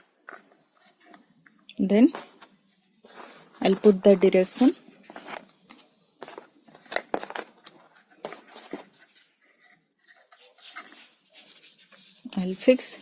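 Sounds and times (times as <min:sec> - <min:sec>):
hands handling paper and plastic: 0:00.2 - 0:13.0.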